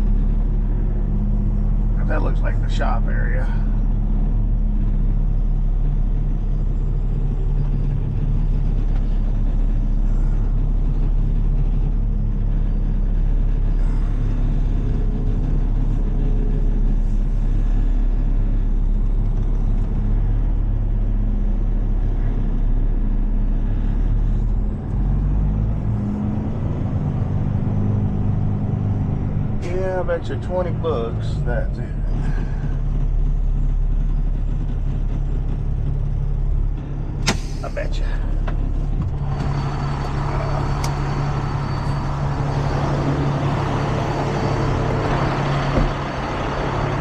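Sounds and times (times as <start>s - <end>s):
diesel truck engine droning: 0.0s - 47.0s.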